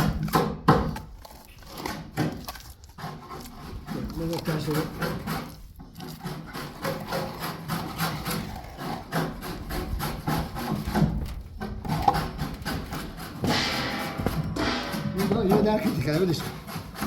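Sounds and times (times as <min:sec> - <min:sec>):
scraping strokes: 0:01.4 - 0:17.0.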